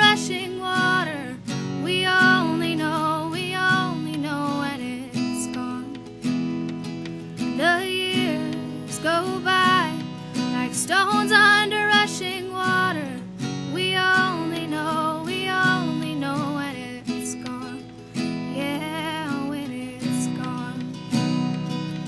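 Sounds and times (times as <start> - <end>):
woman singing: 0.0 - 6.3, 7.4 - 21.4
strummed acoustic guitar: 0.0 - 22.0.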